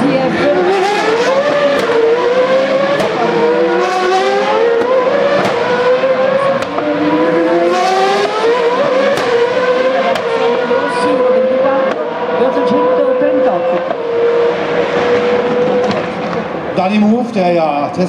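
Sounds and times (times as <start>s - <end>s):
race car engines accelerating: 0.0s - 17.2s.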